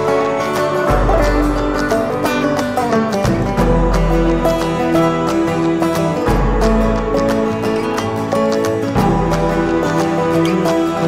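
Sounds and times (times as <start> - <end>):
plucked acoustic guitar: 0.0 - 11.0
sustained bass line: 0.0 - 11.0.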